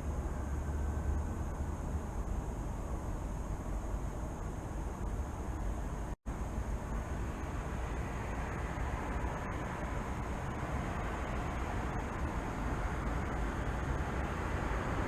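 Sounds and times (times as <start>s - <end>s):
distant city traffic rumble: 0.0s - 15.0s.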